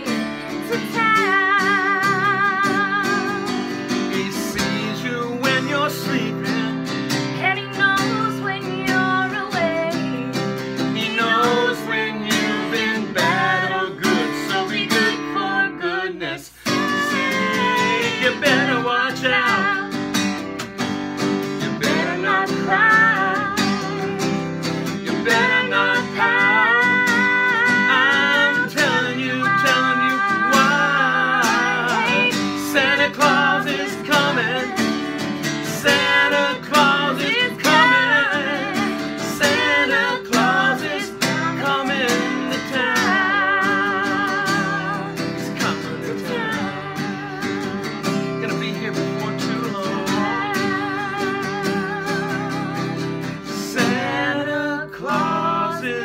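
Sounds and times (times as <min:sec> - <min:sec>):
man and woman singing: 0:00.0 - 0:20.2, 0:21.6 - 0:56.0
acoustic guitar strumming: 0:00.0 - 0:56.0.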